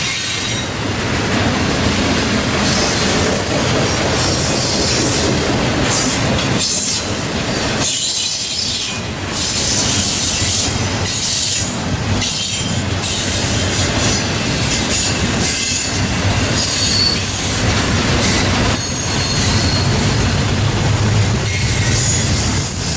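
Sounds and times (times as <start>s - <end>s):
freight train cars rolling: 0.0s - 22.9s
train wheels squealing: 0.0s - 22.9s.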